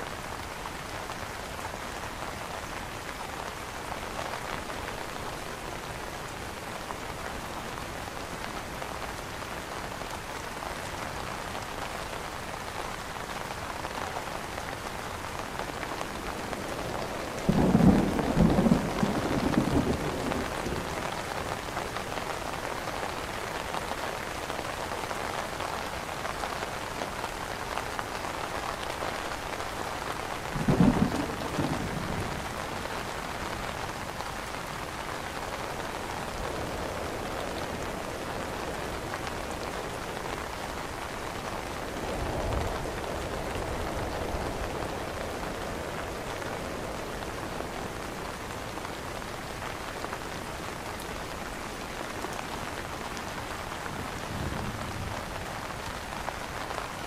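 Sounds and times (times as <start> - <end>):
rain on an umbrella: 0.0 - 57.0.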